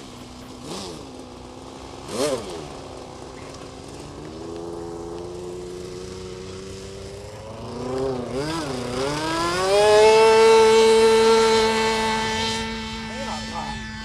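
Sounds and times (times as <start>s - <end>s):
model jet engine revving: 0.0s - 14.0s.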